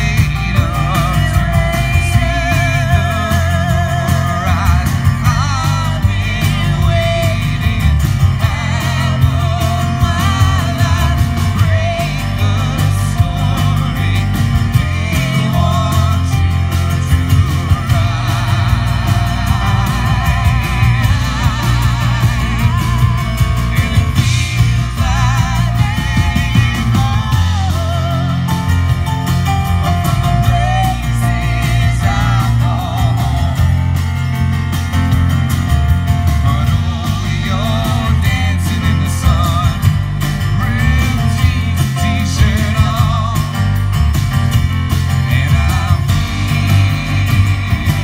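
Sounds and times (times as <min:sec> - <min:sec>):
acoustic guitar: 0:00.0 - 0:48.0
drum kit: 0:00.0 - 0:48.0
keyboard: 0:00.0 - 0:48.0.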